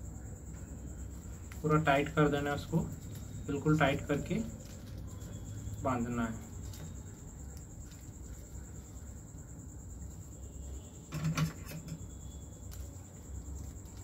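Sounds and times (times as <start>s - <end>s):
cricket trill: 0.0s - 14.0s.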